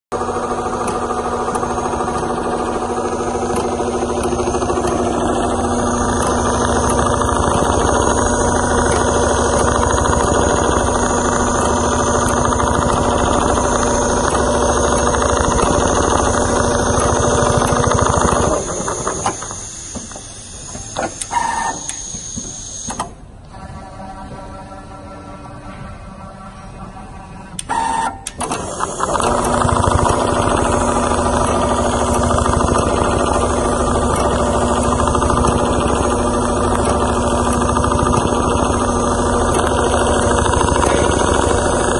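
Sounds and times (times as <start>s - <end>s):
sewing machine stitching: 0.2s - 23.0s, 27.7s - 41.9s
sewing machine clicking to a stop: 0.2s - 23.2s, 27.6s - 41.9s.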